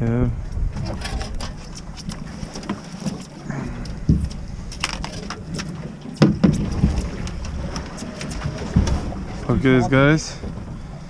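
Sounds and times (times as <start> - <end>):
low wind rumble: 0.0 - 2.7, 3.4 - 11.0.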